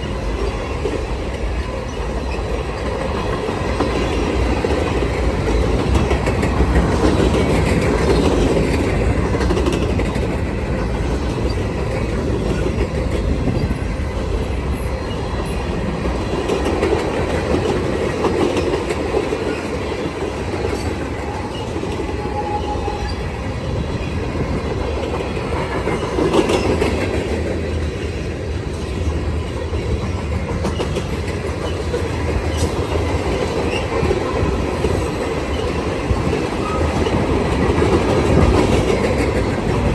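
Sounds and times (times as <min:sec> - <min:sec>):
freight train rumbling: 0:00.0 - 0:39.9
wheels clicking over rail joints: 0:00.0 - 0:39.9.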